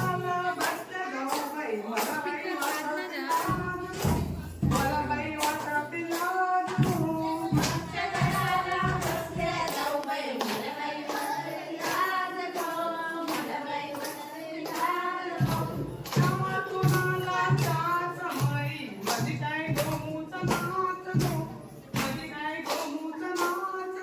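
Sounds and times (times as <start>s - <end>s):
rhythmic hand clapping: 0.0s - 24.0s
voices singing folk song: 0.0s - 24.0s.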